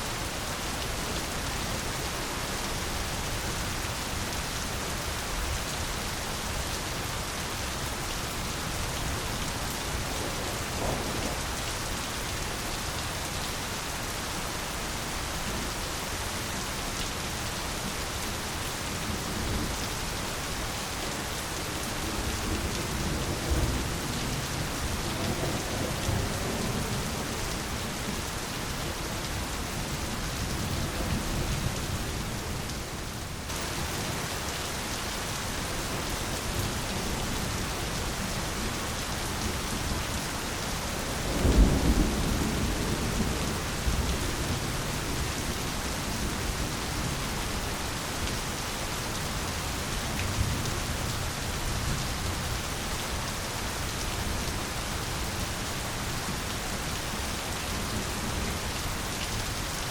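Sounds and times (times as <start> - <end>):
heavy rain on foliage: 0.0 - 59.9.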